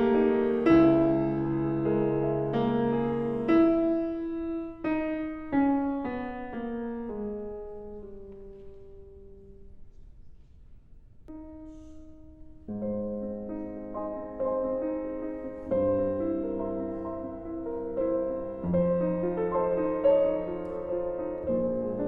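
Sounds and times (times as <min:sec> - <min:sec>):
piano music: 0:00.0 - 0:10.0, 0:11.3 - 0:22.0.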